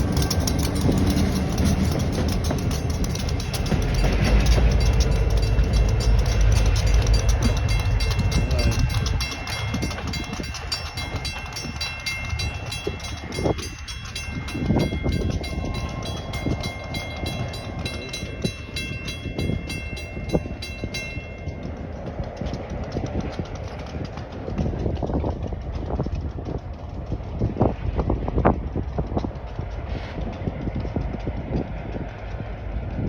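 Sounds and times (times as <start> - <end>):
locomotive engine rumble: 0.0 - 33.0
wheels clicking over rail joints: 0.0 - 33.0.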